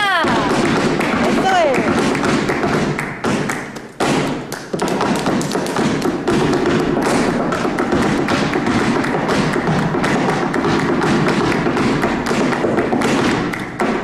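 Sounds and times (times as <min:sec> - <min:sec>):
shoes tapping and stamping on stage: 0:00.0 - 0:14.0.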